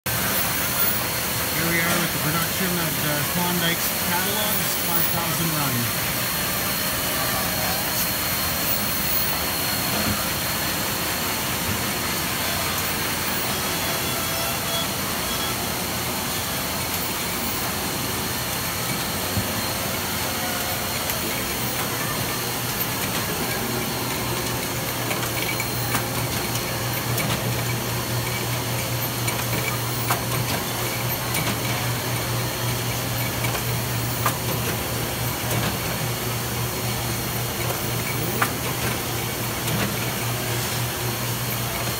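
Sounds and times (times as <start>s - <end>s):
high mechanical whine: 0.1s - 41.9s.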